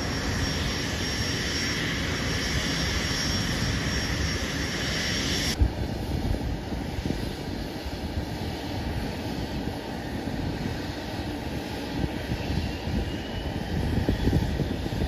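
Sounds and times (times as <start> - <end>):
jet taxiing rumble: 0.0 - 15.0.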